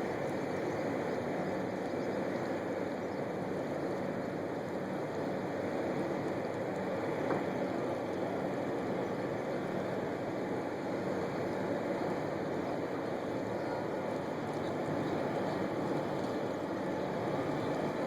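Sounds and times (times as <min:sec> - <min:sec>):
boat engine rumble: 0:00.0 - 0:18.0.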